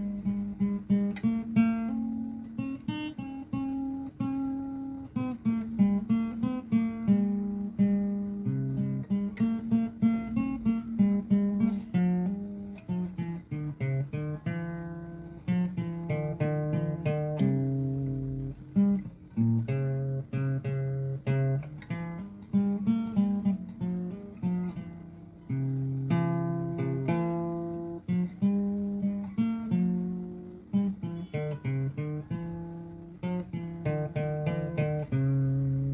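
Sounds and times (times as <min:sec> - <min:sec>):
plucked acoustic guitar melody: 0:00.0 - 0:35.9.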